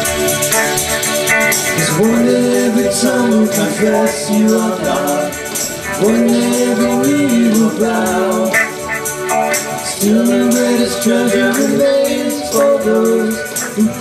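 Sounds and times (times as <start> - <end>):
electric guitars: 0.0 - 14.0
light percussion rhythm: 0.0 - 14.0
men singing: 1.5 - 14.0.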